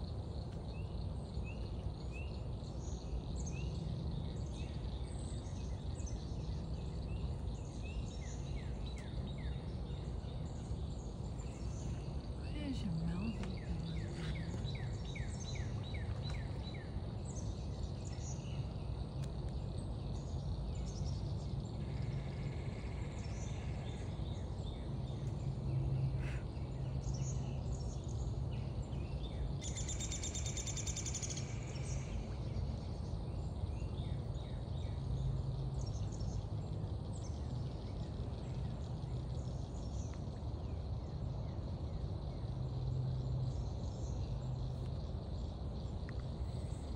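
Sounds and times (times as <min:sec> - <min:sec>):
low rumble and hum: 0:00.0 - 0:46.9.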